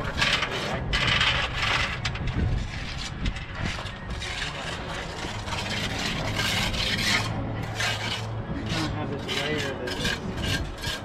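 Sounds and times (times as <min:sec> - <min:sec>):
trowel scraping on brick: 0:00.0 - 0:11.0.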